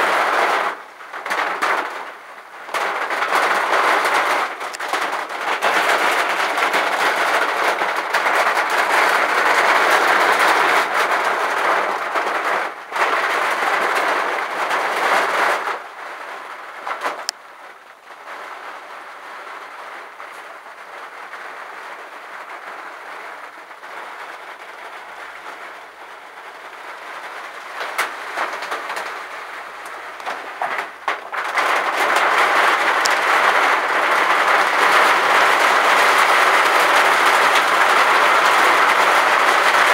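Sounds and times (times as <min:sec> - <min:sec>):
heavy rain: 0:00.0 - 0:39.9
patter of raindrops: 0:00.0 - 0:39.9.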